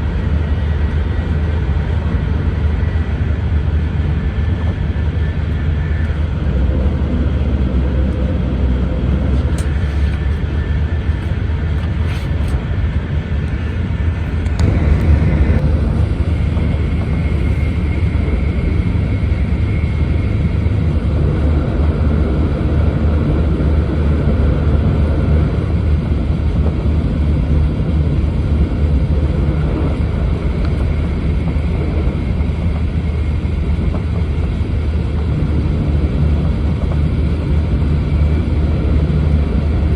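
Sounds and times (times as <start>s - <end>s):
train cabin rumble: 0.0s - 39.9s.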